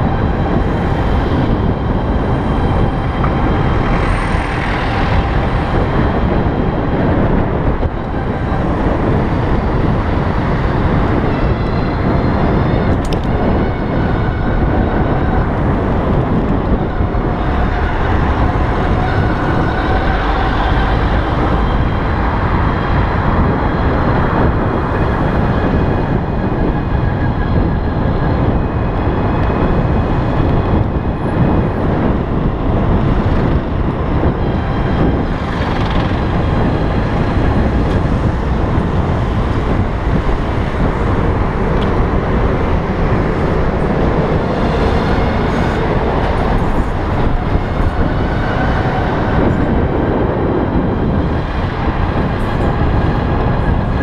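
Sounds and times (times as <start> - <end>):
road noise: 0.0 - 54.0
wind rushing over microphone: 0.0 - 54.0.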